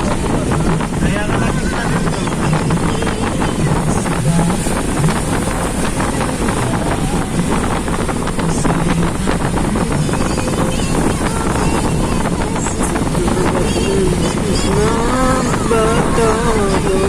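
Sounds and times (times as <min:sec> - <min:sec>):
vehicle rumble on road: 0:00.0 - 0:17.0
wind on microphone: 0:00.0 - 0:17.0.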